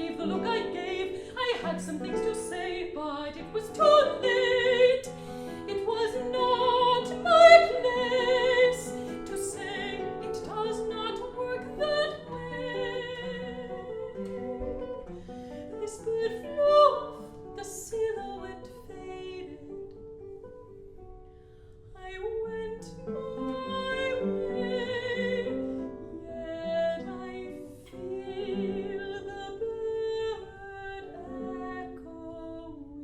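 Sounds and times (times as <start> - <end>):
woman singing with vibrato: 0.0 - 15.0, 15.8 - 19.7, 22.0 - 33.0
classical guitar: 0.0 - 33.0.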